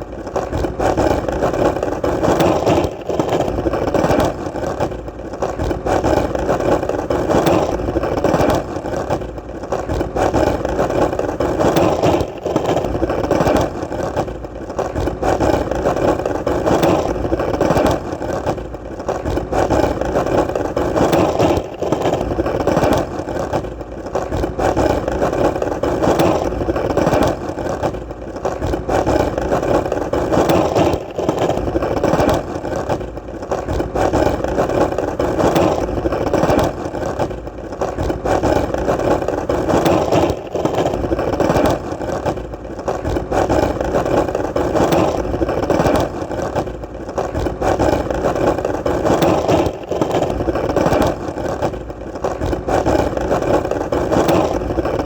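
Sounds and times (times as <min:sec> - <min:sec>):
skateboard wheels rolling: 0:00.0 - 0:55.0.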